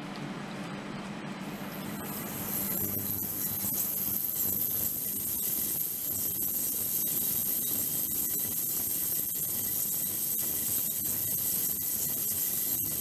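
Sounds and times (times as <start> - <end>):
ultrasonic cleaner hiss and whine: 1.3 - 13.0.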